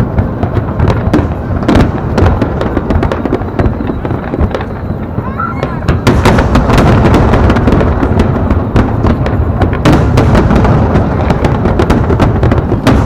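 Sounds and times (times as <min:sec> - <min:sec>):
fireworks bangs and crackles: 0:00.0 - 0:13.0
rumble of fireworks booms: 0:00.0 - 0:13.0.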